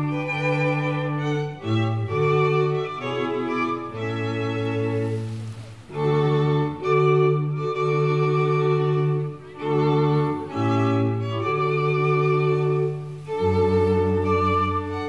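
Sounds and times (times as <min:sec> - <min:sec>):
slow string music: 0:00.0 - 0:15.0.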